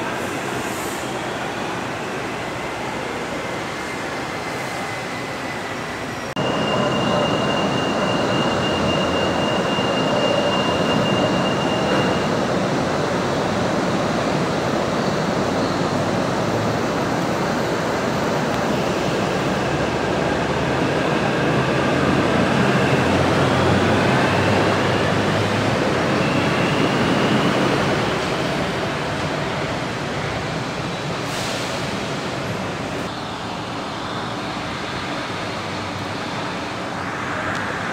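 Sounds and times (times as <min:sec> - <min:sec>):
monorail train running: 0:00.0 - 0:37.9.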